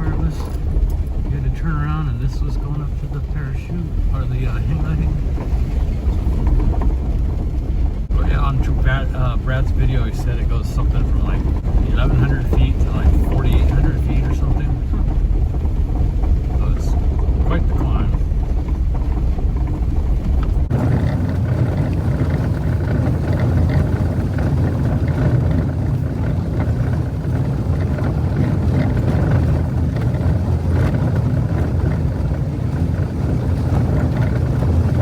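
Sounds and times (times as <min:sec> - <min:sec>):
car engine drone: 0:00.0 - 0:35.0
tyre and road rumble: 0:00.0 - 0:35.0.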